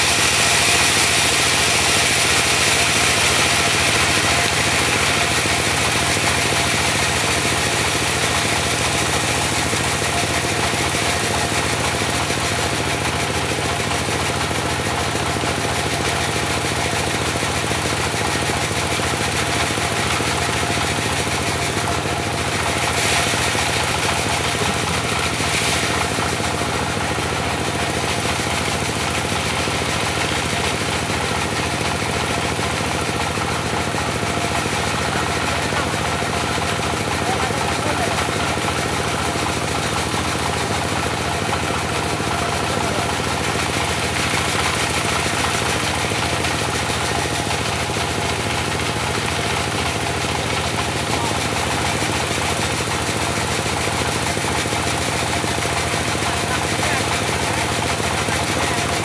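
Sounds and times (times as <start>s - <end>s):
diesel engine running sawmill: 0.0s - 59.0s.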